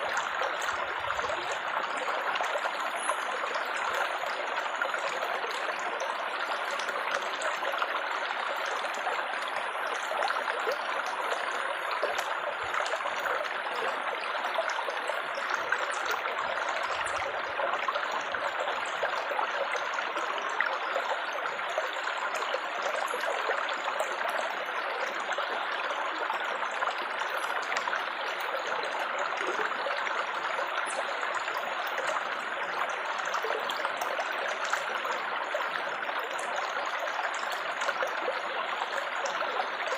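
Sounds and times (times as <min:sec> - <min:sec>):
water babbling and trickling: 0:00.0 - 0:39.9.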